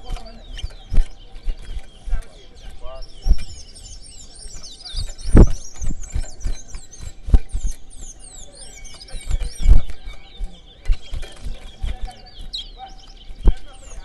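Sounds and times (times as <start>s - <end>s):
dull low thumps: 0.0s - 14.0s
finches chirping and warbling: 0.0s - 14.0s.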